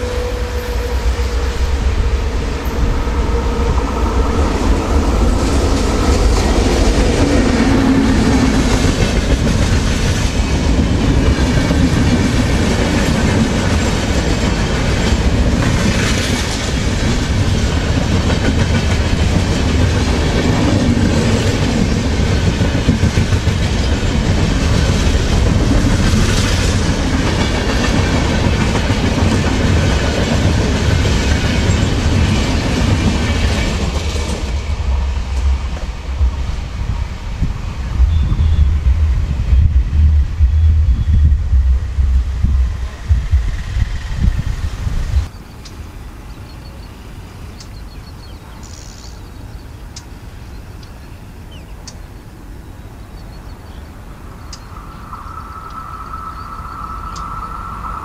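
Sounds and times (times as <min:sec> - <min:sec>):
train passing with loud rumble: 0:00.0 - 0:58.0.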